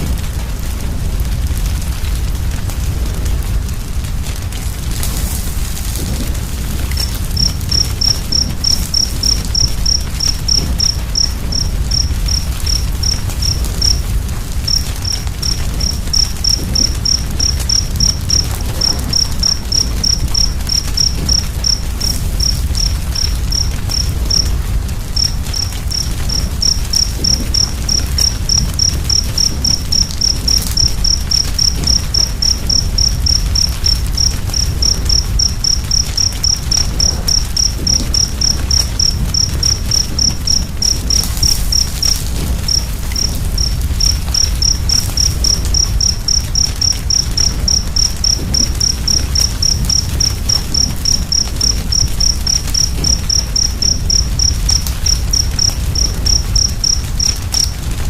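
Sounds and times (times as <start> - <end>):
fire rumbling and crackling: 0.0 - 58.0
cricket chirping: 4.4 - 58.0.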